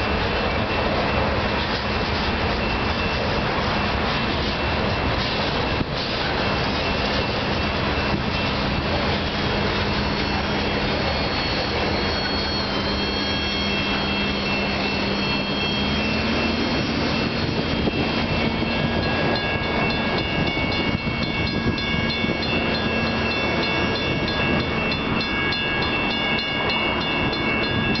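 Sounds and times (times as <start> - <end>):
diesel locomotive drone: 0.0 - 28.0
wheels on rail ringing: 0.0 - 28.0.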